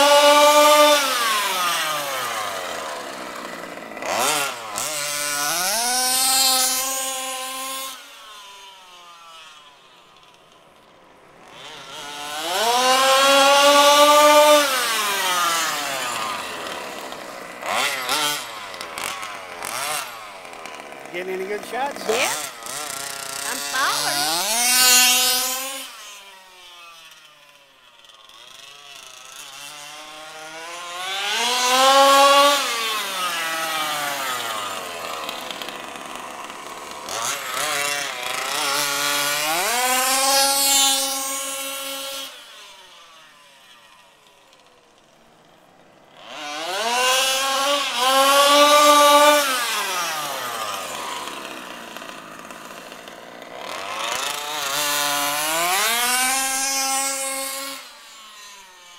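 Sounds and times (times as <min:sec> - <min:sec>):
two-stroke engine revving: 0:00.0 - 0:58.9.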